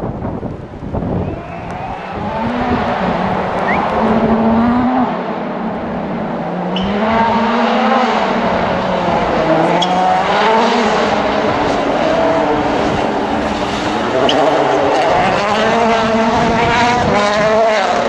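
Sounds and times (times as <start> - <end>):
road and tyre noise: 0.0 - 18.0
rally car engine revving: 1.2 - 18.0.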